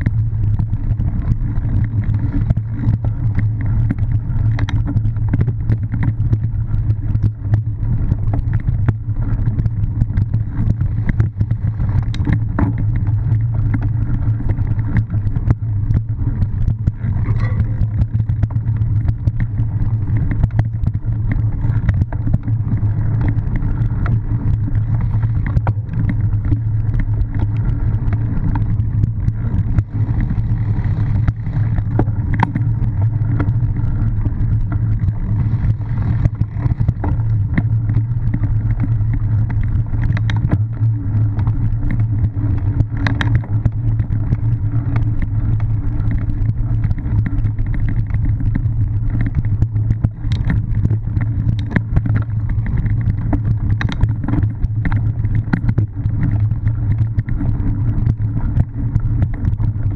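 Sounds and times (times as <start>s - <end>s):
bike clicks and knocks: 0.0s - 59.9s
wind and ride rumble: 0.0s - 59.9s.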